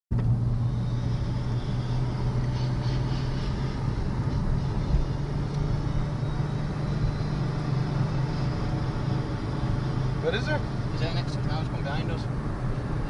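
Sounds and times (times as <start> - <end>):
car engine and road noise: 0.1 - 13.0.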